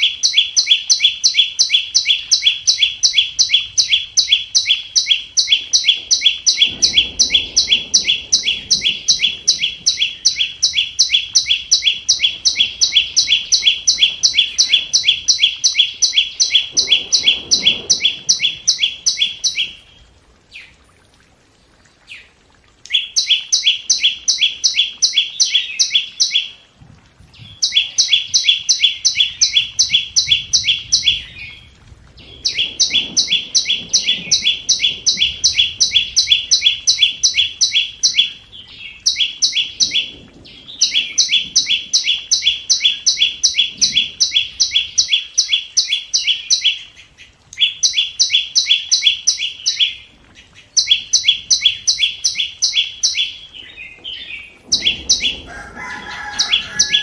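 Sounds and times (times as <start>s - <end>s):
bird high ticking call: 0.0s - 19.9s, 22.8s - 26.5s, 27.5s - 31.5s, 32.4s - 40.1s, 40.8s - 50.0s, 50.7s - 53.5s.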